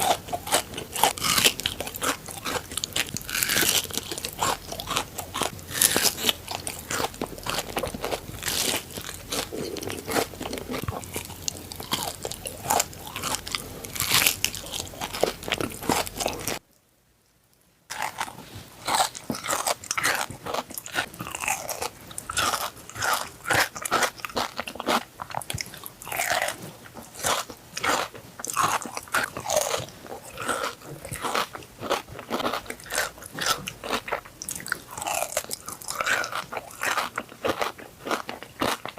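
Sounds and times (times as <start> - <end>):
crunchy chocolate chewing: 0.0 - 16.7, 17.9 - 38.9.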